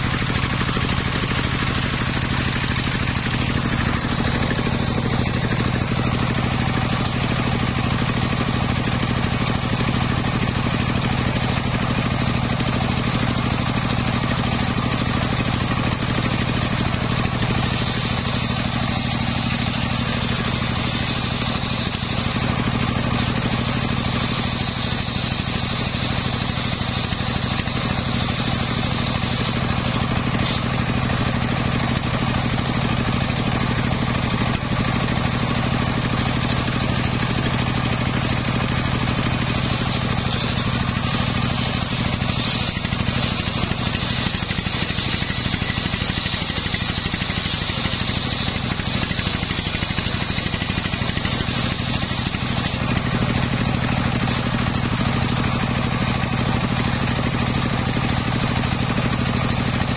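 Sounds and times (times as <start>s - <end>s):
circular saw engine drone: 0.0s - 55.9s
saw blade whine cutting wood: 0.0s - 59.9s.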